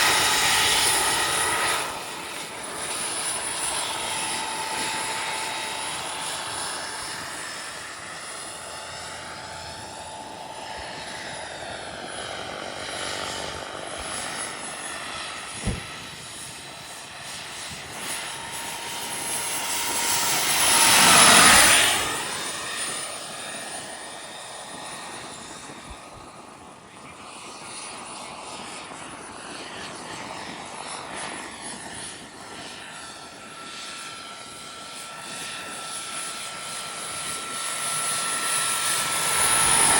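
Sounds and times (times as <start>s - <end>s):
model helicopter turbine whine: 0.0s - 39.9s.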